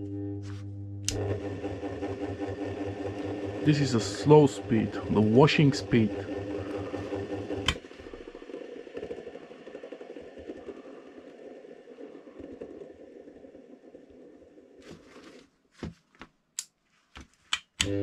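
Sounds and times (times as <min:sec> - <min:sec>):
washing machine motor spinning down: 0:00.0 - 0:14.8.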